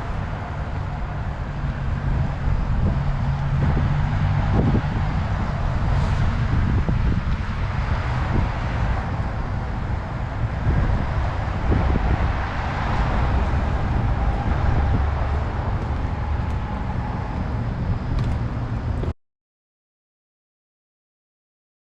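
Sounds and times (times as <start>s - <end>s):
wind noise on microphone: 0.0s - 19.1s
low vehicle rumble: 0.0s - 19.2s.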